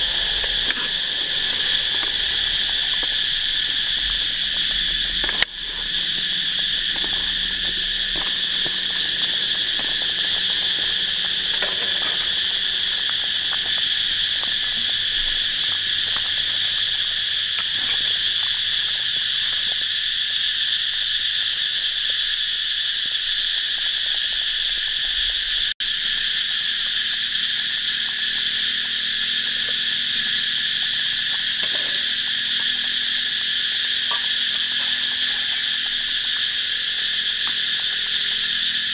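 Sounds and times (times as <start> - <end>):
insects shrilling: 0.0 - 38.9.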